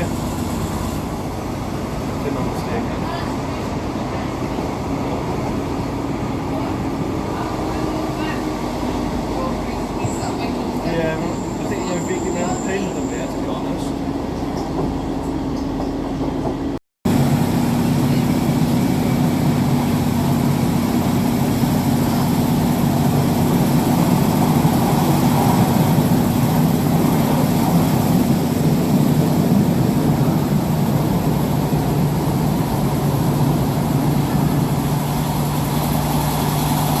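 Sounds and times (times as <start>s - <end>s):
constant rumbling noise: 0.0s - 37.0s.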